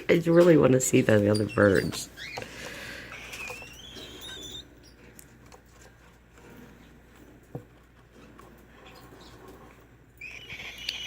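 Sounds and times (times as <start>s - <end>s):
faint scratching and pattering: 0.0s - 10.0s.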